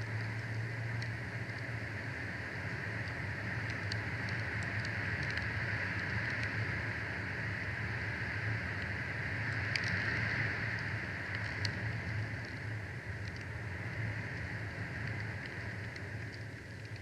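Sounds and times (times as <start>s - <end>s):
faint ticks: 0.0s - 17.0s.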